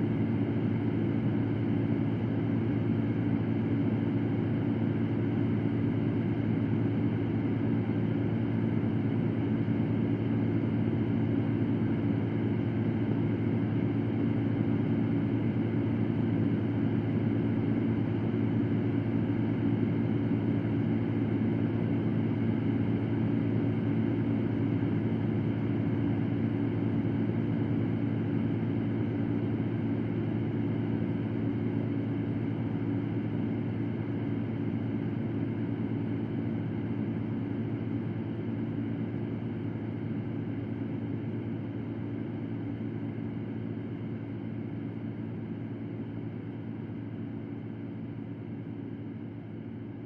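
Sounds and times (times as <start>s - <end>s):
electric fan running: 0.0s - 50.0s.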